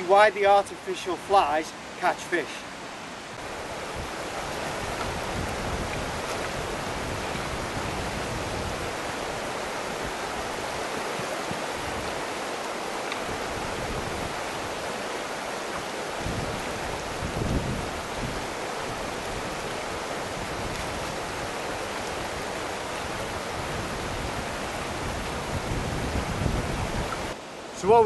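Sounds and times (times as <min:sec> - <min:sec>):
river running over stones: 0:00.0 - 0:28.0.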